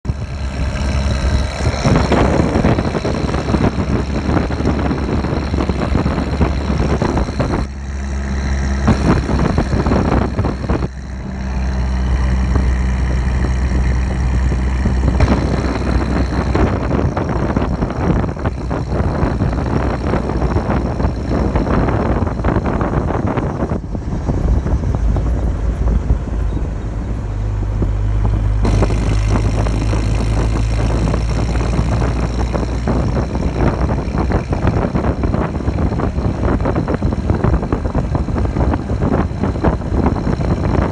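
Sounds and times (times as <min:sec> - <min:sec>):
vehicle engine humming: 0:00.0 - 0:40.9.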